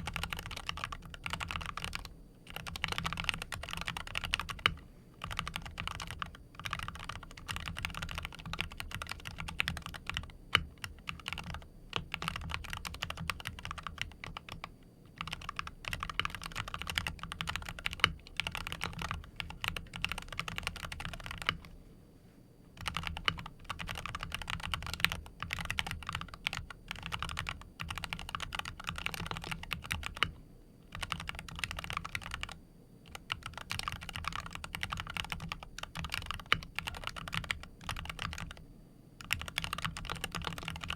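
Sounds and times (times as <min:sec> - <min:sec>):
keyboard typing: 0:00.0 - 0:21.8, 0:22.8 - 0:38.6, 0:39.2 - 0:40.9.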